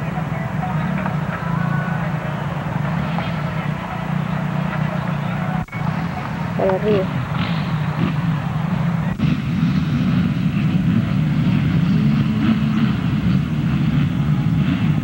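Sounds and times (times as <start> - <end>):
motocross bike engines rumbling: 0.0 - 15.0.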